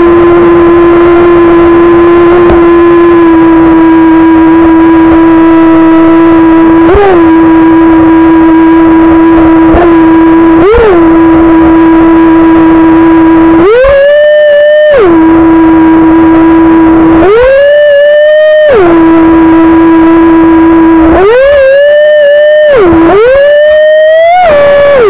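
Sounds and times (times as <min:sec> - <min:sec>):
electric motor whining: 0:00.0 - 0:25.0.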